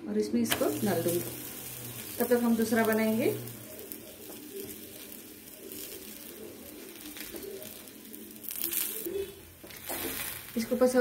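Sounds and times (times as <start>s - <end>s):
flatbread sizzling on hot griddle: 0.5s - 11.0s.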